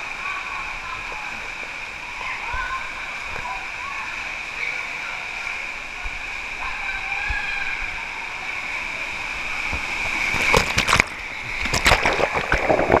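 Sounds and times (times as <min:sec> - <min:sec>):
water rushing along a slide: 0:00.0 - 0:13.0
water splashing and sloshing: 0:00.0 - 0:13.0.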